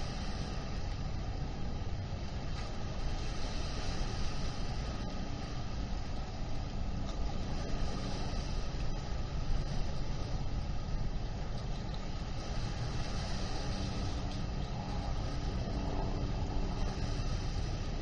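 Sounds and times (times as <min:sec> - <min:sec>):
distant engines and traffic rumble: 0:00.0 - 0:18.0.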